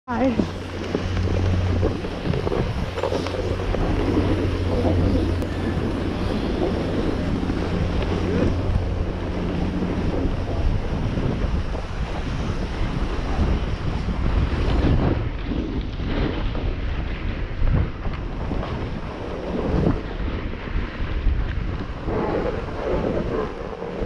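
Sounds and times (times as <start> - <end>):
wind buffeting microphone: 0.1 - 24.0
skis scraping on hard snow: 0.2 - 24.0.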